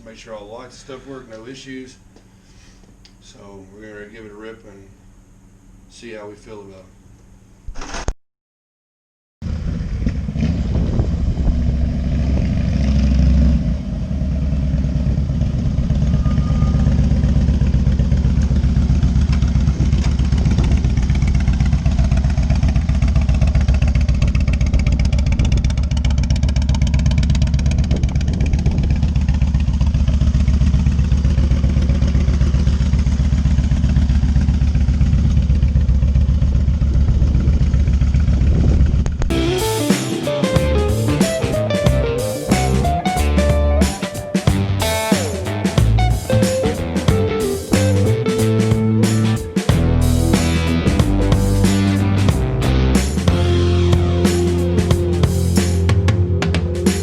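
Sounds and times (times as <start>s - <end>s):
motorcycle engine running: 9.4s - 57.0s.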